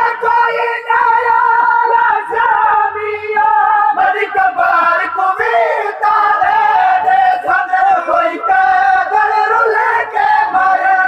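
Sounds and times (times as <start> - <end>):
crowd singing along: 0.0 - 11.0
man singing lament over loudspeakers: 0.0 - 11.0.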